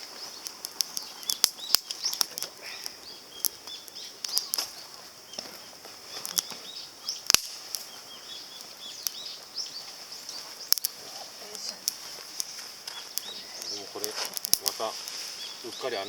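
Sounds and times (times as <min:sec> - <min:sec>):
high-pitched background hiss: 0:00.0 - 0:16.0
wood fire crackling and popping: 0:00.0 - 0:16.0.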